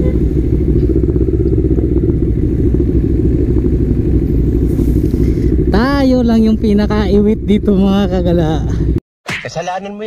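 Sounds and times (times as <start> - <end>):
motorcycle engine running at low revs: 0.0 - 9.0.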